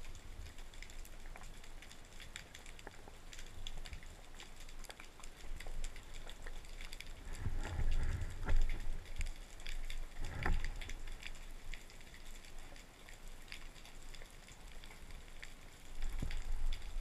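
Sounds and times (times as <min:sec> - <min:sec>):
low water rumble: 0:00.0 - 0:17.0
underwater clicks and snaps: 0:00.0 - 0:17.0.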